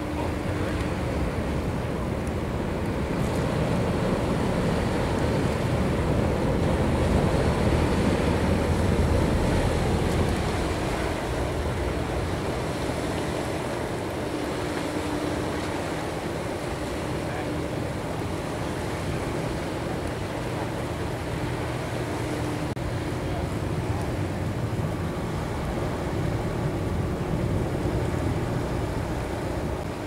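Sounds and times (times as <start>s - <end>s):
ship diesel engines rumbling: 0.0s - 30.0s
water washing: 0.0s - 30.0s.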